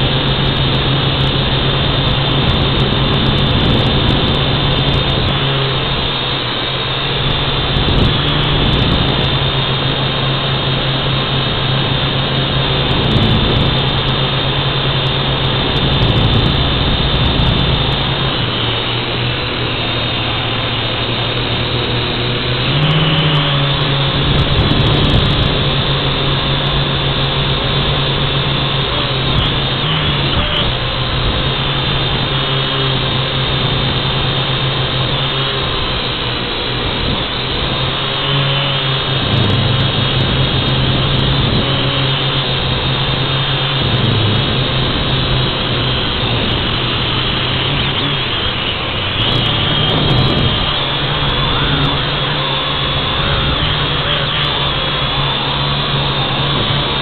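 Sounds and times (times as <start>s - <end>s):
model airplane motor droning: 0.0s - 57.0s.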